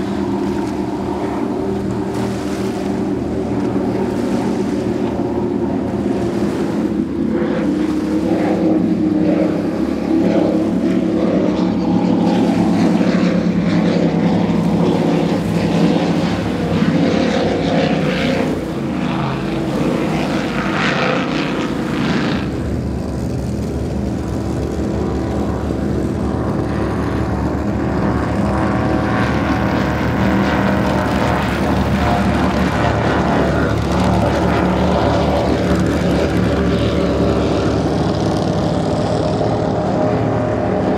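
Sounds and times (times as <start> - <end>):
powerboats passing at speed: 0.0 - 40.9.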